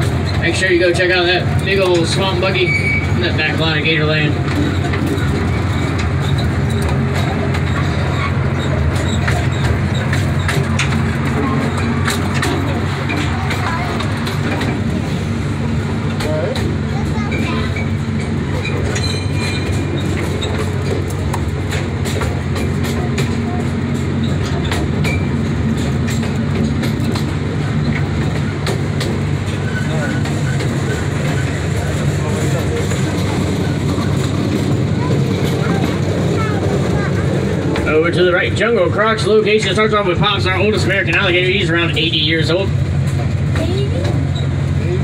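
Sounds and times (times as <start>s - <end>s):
tour train engine drone: 0.0s - 45.0s.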